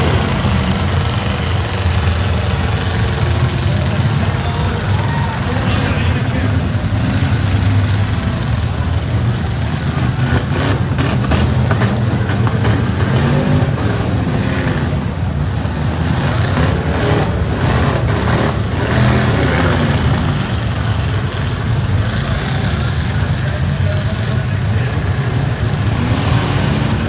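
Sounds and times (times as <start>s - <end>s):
stock-car engines revving: 0.0s - 27.0s.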